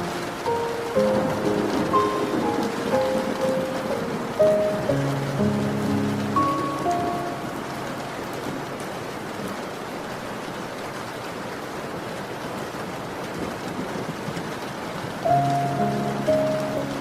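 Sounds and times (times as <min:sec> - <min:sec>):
raindrop ticks: 0:00.0 - 0:09.8, 0:12.1 - 0:17.0
steady rain hiss: 0:00.0 - 0:17.0.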